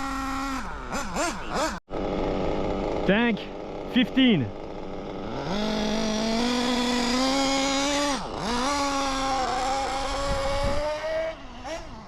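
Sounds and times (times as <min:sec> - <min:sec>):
nitro engine running: 0:00.0 - 0:12.0.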